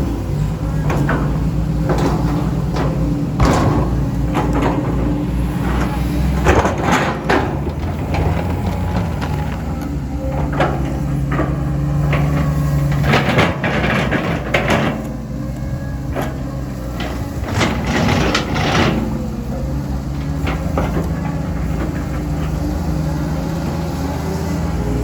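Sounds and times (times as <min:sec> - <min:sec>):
machine knocks and clanks: 0:00.0 - 0:23.8
excavator diesel engine running: 0:00.0 - 0:25.0.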